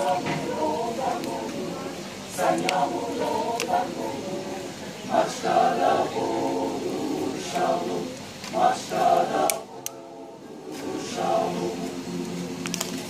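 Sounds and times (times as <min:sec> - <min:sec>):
mixed choir singing a cappella: 0:00.0 - 0:13.0.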